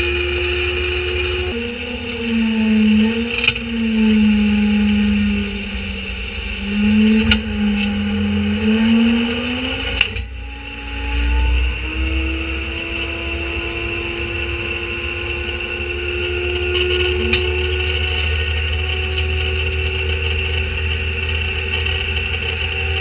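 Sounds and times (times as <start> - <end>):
garbage truck engine rumble: 0.9 - 23.0.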